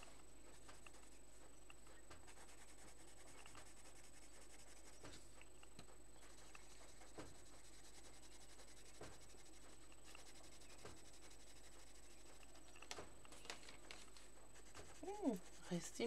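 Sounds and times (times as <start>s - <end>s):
pencil scratching on paper: 0.0s - 16.0s
steady low hiss: 0.0s - 16.0s.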